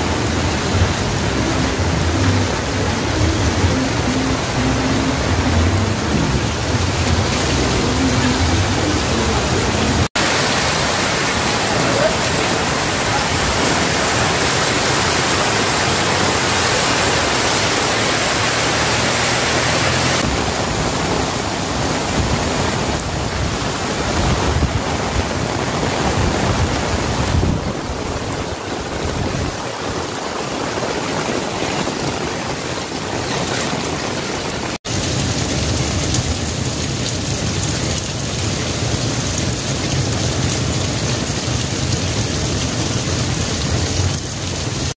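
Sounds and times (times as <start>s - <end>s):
floodwater rushing and splashing: 0.0s - 44.9s.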